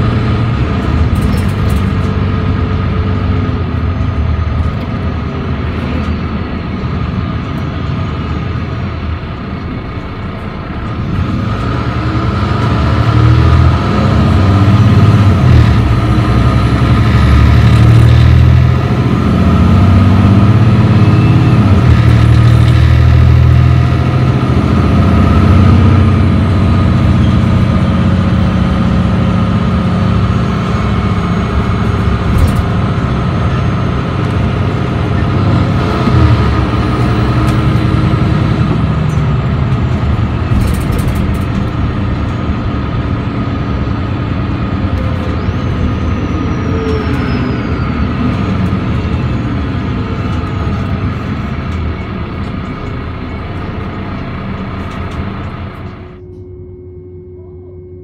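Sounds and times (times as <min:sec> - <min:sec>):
bus diesel engine at full throttle: 0:00.0 - 0:58.0.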